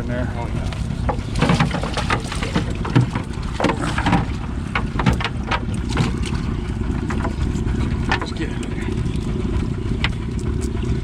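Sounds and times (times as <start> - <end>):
fish flopping and splashing: 0.0 - 11.0
low rumble: 0.0 - 11.0.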